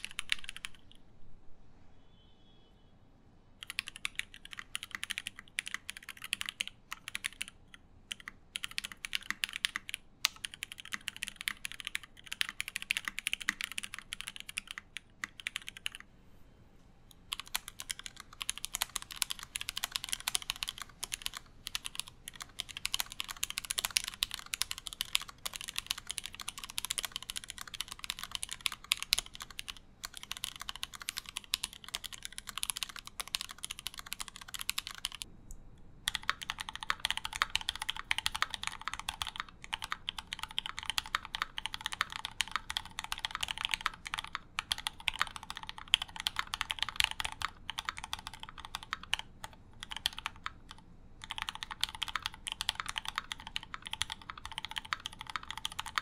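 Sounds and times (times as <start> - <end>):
fast typing on mechanical keyboard: 0.0 - 0.9, 3.6 - 16.0, 17.2 - 35.3, 36.1 - 56.0.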